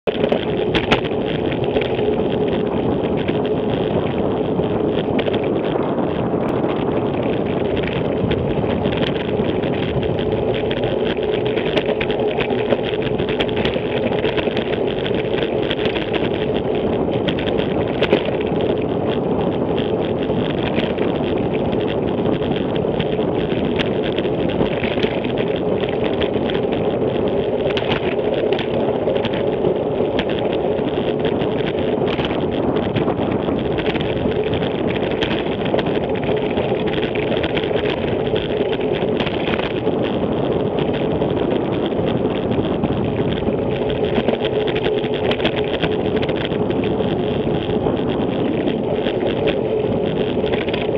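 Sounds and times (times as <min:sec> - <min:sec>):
constant low hum: 0:00.0 - 0:50.9
small clicks and rattles: 0:00.0 - 0:50.9
wind and road noise: 0:00.0 - 0:50.9.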